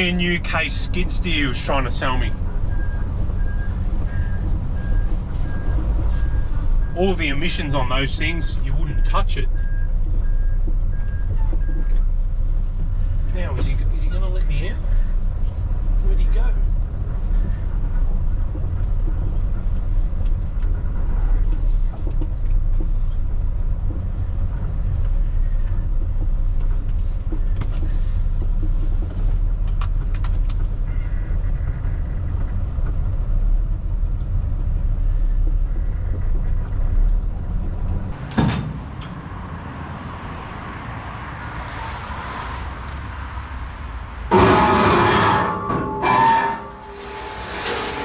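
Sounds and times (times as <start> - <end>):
diesel truck engine rumbling: 0.0 - 48.0.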